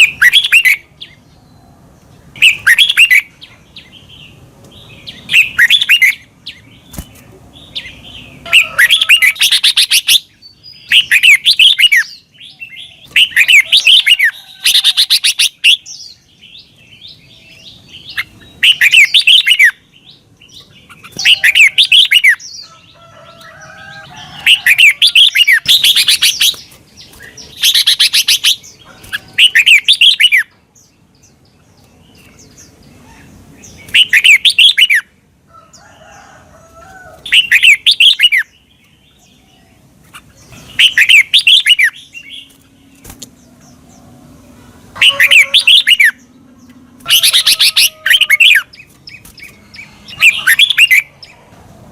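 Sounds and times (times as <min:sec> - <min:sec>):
bird singing warbled phrases: 0:00.0 - 0:35.9, 0:37.1 - 0:51.5.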